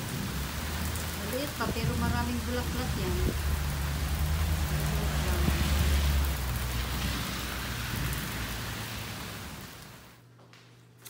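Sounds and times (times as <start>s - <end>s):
heavy rain on a lawn: 0.0s - 10.2s.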